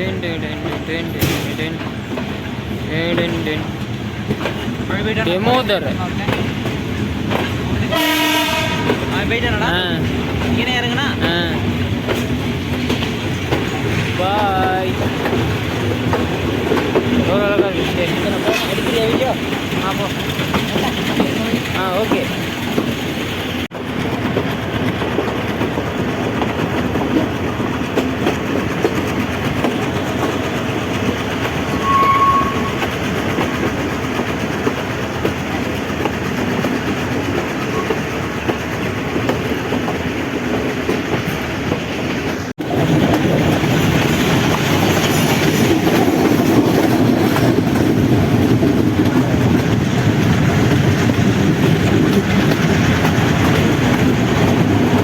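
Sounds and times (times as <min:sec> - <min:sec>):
passenger train rumbling: 0:00.0 - 0:55.0
wheels clacking over rail joints: 0:00.0 - 0:55.0.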